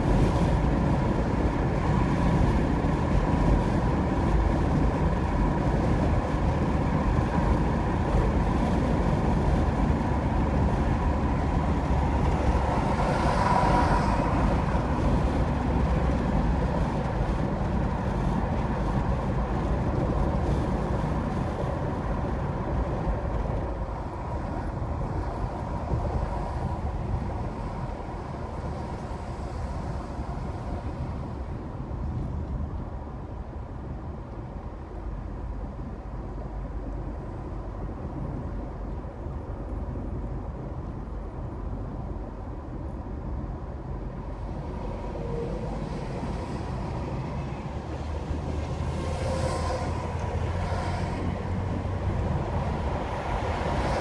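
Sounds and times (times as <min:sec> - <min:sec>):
tyre and wind road noise: 0:00.0 - 0:54.0.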